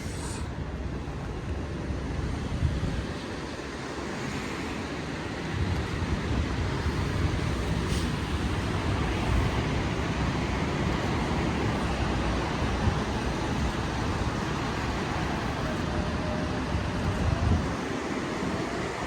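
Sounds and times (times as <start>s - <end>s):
city traffic passing: 0.0s - 19.0s.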